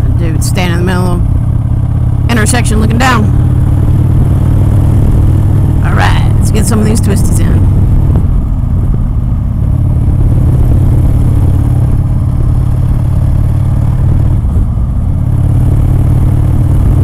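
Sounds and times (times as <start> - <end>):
motorcycle engine running: 0.0 - 17.0
wind rumble on microphone: 3.3 - 17.0.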